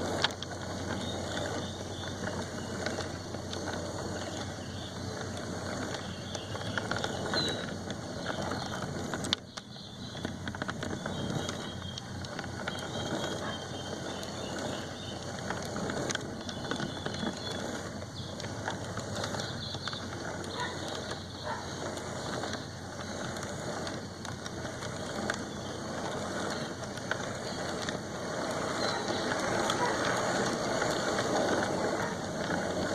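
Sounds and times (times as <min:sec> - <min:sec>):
model train whirring and rattling: 0:00.0 - 0:32.9.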